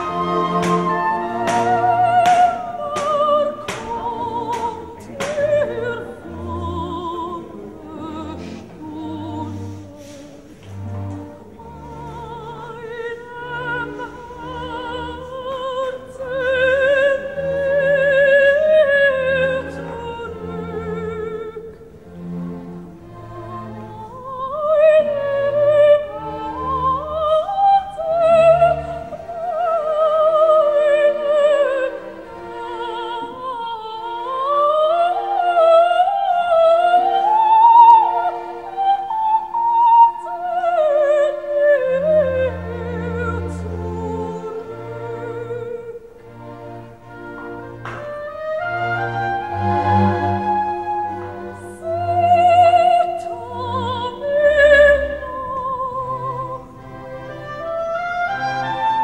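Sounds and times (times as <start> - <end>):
operatic singing: 0.0 - 59.0
orchestra playing: 0.0 - 59.0.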